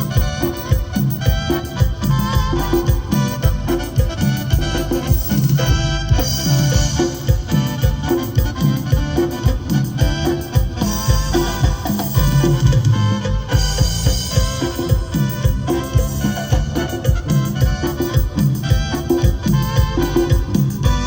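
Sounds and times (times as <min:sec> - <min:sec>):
bass and drum beat: 0:00.0 - 0:21.0
lead melody: 0:00.0 - 0:21.0.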